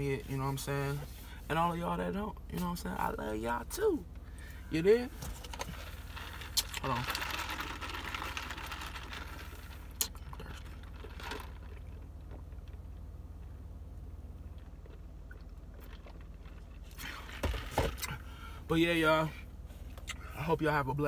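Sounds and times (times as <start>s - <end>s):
car idling hum: 0.0s - 21.0s.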